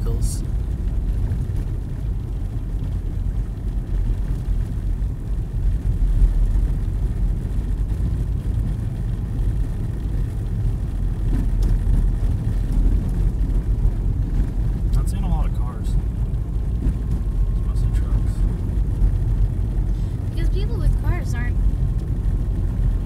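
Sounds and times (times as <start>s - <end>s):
car interior driving rumble: 0.0s - 23.0s.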